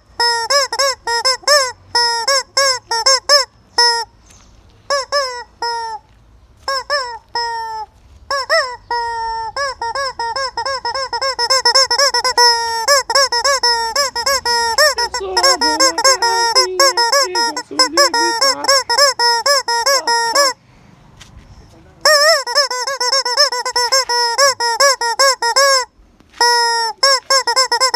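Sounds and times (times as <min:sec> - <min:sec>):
squeaky rubber chicken toy: 0:00.0 - 0:04.1, 0:04.9 - 0:20.6, 0:22.0 - 0:27.9.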